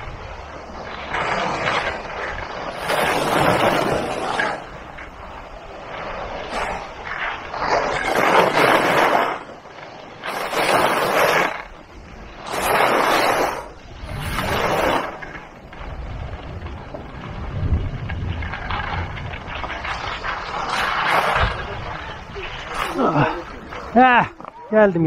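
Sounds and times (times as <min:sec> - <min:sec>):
skis scraping across packed snow: 0:00.0 - 0:25.0
wind buffeting microphone: 0:00.0 - 0:25.0.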